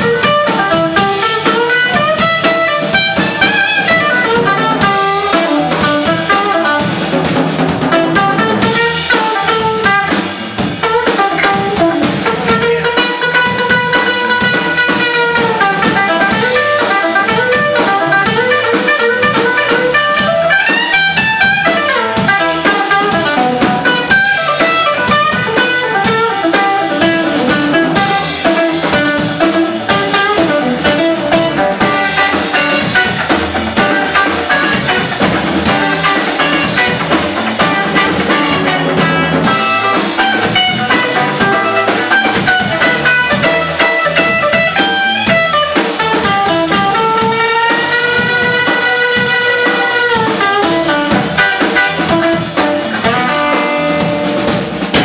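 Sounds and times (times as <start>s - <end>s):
electric blues band playing: 0.0s - 55.0s
electric guitar: 0.0s - 55.0s.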